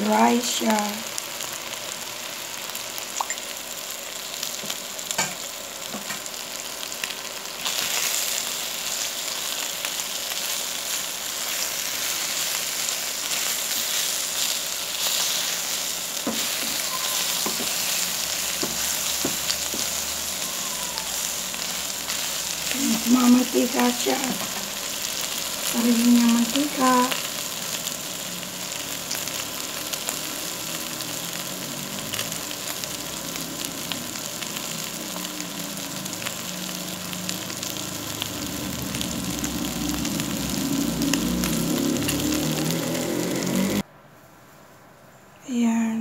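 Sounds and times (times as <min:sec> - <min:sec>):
meat sizzling in a pan: 0:00.0 - 0:43.8.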